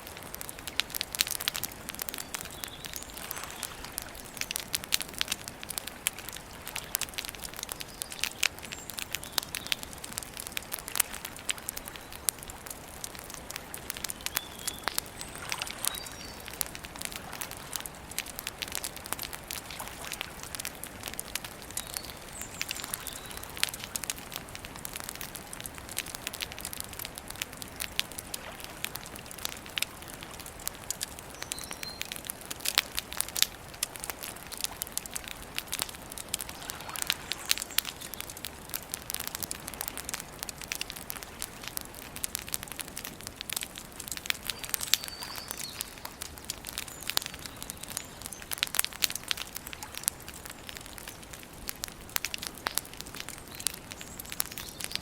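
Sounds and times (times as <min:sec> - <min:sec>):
campfire crackling and popping: 0:00.0 - 0:55.0
soft fire hiss: 0:00.0 - 0:55.0.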